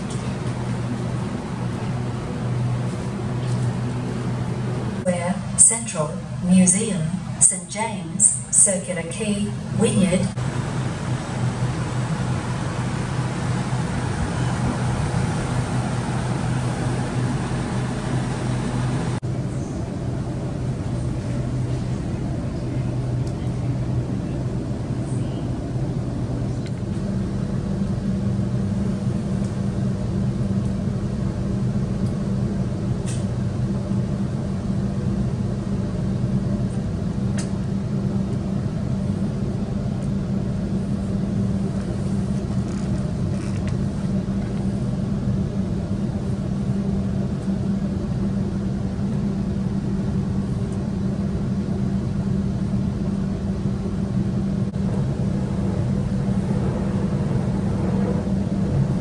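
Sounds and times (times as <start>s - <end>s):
train interior rumble with hum: 0.0s - 59.0s.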